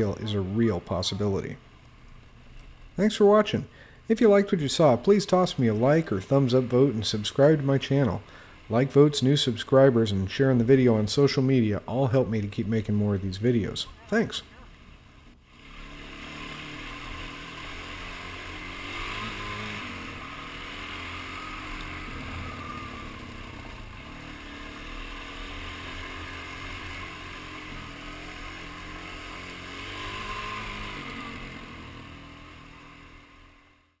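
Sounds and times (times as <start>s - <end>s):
motorcycle engine revving: 2.7s - 11.1s, 14.7s - 34.0s.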